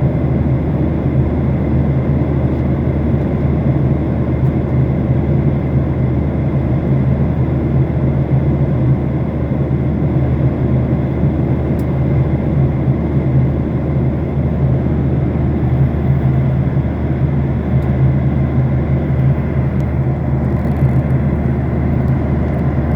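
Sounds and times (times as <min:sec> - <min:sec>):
airliner cabin engine hum: 0:00.0 - 0:22.9.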